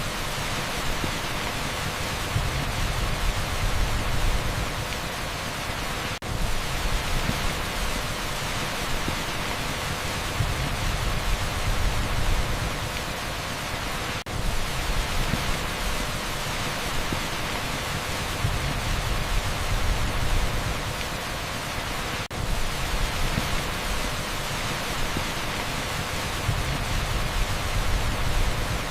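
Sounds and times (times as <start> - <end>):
torrential rain on asphalt: 0.0 - 28.9.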